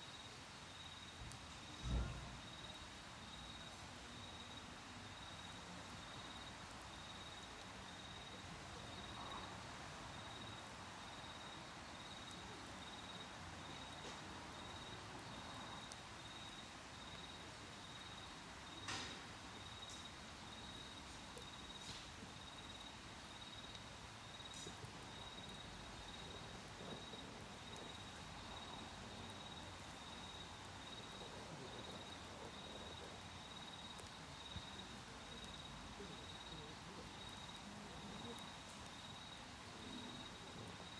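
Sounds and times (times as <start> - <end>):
campfire crackling and popping: 0.0 - 40.9
insects trilling: 0.0 - 40.9.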